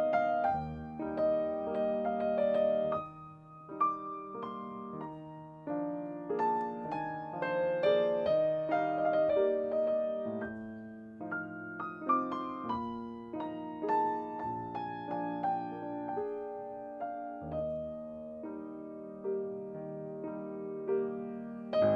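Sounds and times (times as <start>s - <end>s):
slow piano music: 0.0s - 21.9s.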